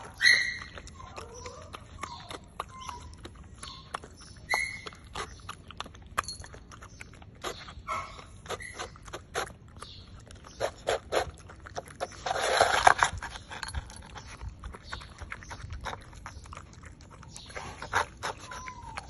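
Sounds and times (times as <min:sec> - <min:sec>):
puppy chewing wetly: 0:00.0 - 0:19.0.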